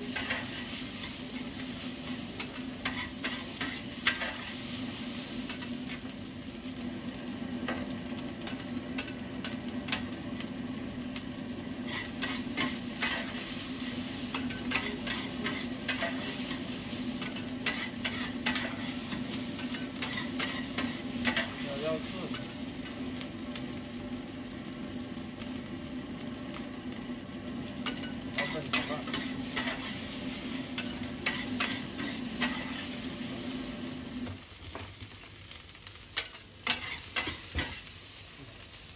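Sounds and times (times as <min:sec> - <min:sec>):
rice sizzling on a griddle: 0:00.0 - 0:38.9.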